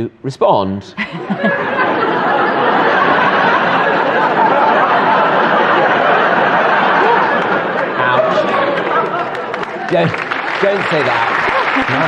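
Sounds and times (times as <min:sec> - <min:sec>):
studio audience laughing: 0:01.0 - 0:12.0.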